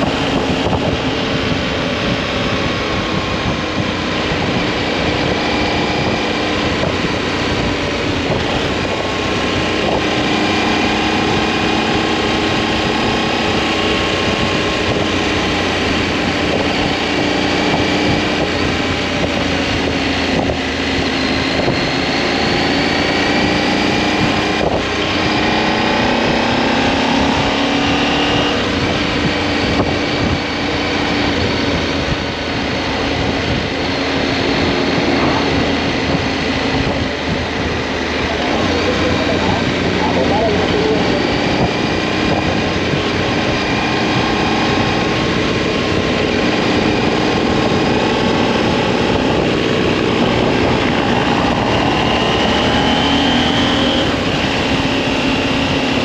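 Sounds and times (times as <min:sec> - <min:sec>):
motorcycle engine running: 0:00.0 - 0:56.0
wind on microphone: 0:00.0 - 0:56.0.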